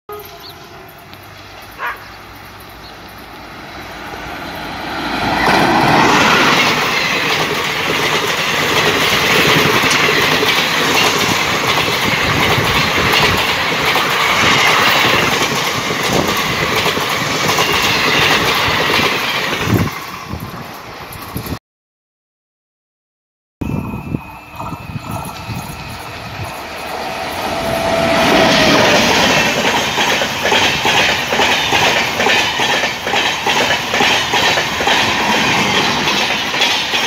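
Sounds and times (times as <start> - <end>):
passing train rushing: 0.1 - 21.6, 23.6 - 37.0
wheels clattering over rail joints: 0.3 - 21.6, 25.0 - 37.0.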